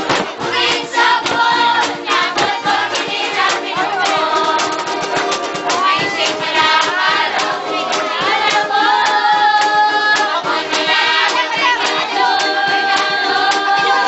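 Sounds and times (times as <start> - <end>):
strummed string instruments: 0.0 - 14.0
women singing together: 0.0 - 14.0.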